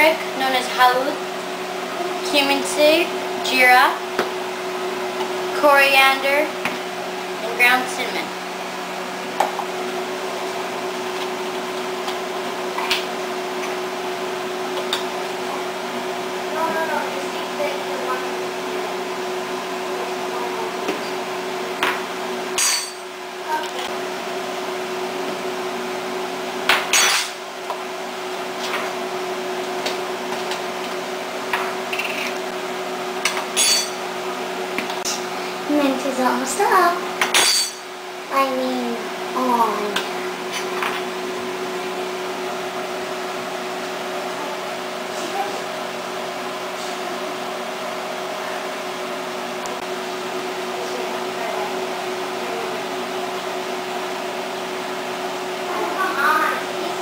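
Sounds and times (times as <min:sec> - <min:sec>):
kitchen fan humming: 0:00.0 - 0:57.0.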